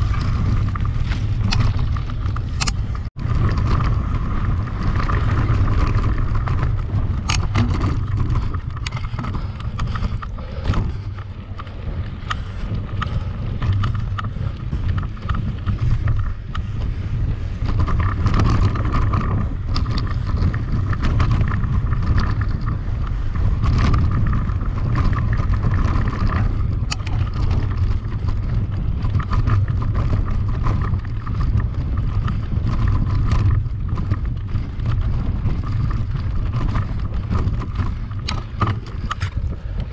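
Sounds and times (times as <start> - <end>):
bicycle rattles and clicks: 0.0 - 39.9
steady rumble: 0.0 - 39.9
wind buffeting on microphone: 0.0 - 39.9.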